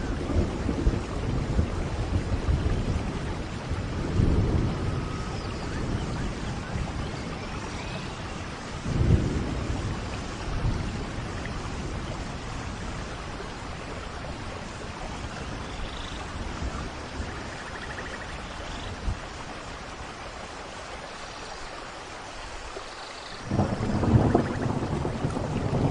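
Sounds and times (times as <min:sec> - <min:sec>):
low rumble of thunder: 0:00.0 - 0:19.6, 0:23.4 - 0:25.9
heavy rain: 0:00.0 - 0:25.9.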